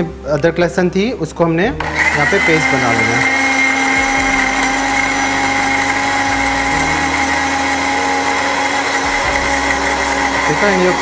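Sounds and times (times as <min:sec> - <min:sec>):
electric blender motor whine: 0:01.8 - 0:11.0.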